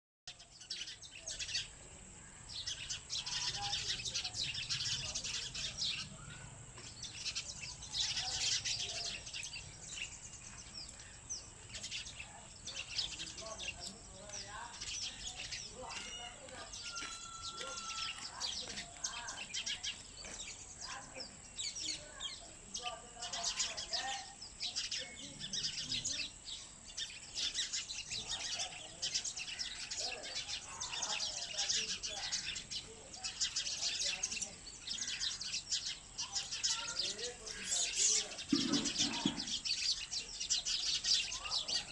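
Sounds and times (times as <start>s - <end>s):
small birds chirping: 0.3s - 41.9s
downward-sweeping bird calls: 2.5s - 41.9s.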